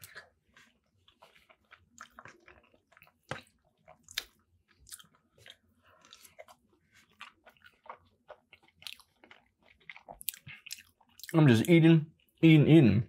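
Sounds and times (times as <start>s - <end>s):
close-up chewing: 0.0s - 11.4s.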